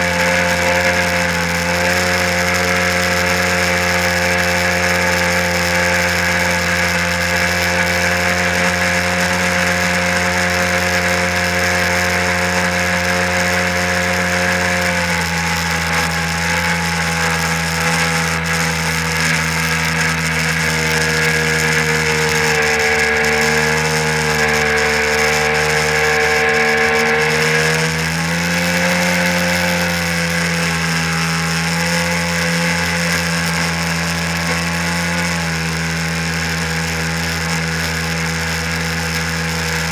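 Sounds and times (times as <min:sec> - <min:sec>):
jet ski engine running hard: 0:00.0 - 0:39.9.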